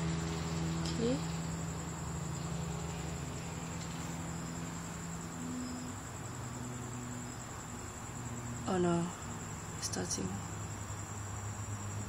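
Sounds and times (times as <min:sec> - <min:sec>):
crickets trilling: 0:00.0 - 0:12.0
low steady hum: 0:00.0 - 0:12.0.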